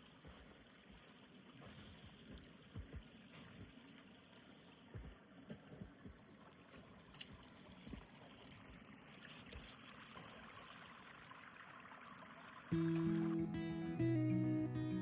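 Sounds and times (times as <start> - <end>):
faint creek water running: 0.0 - 13.4.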